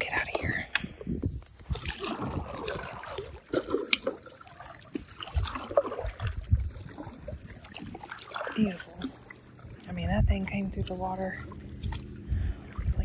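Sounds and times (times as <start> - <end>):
water trickling off paddle: 0.0 - 13.0
paddle splashing in water: 0.9 - 9.9, 10.9 - 13.0.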